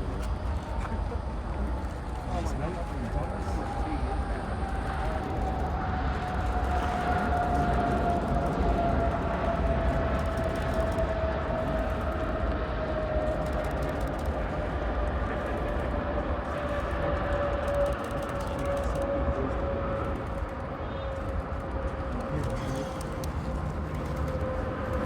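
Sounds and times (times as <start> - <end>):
jet engines whining and rumbling: 0.0 - 25.0.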